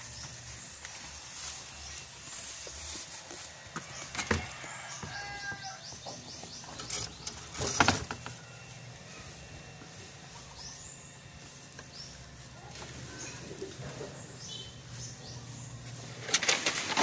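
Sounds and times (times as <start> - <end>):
bird chirping: 0.0 - 2.8, 3.9 - 16.6.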